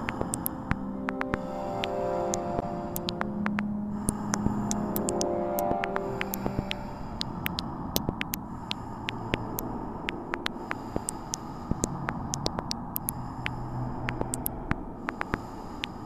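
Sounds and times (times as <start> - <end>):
sharp clicks and crackles: 0.0 - 16.0.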